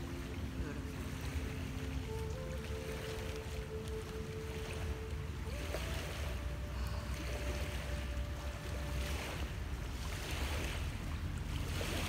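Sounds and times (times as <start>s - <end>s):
lake waves washing on shore: 0.0s - 12.0s
wind rumbling on microphone: 0.0s - 12.0s.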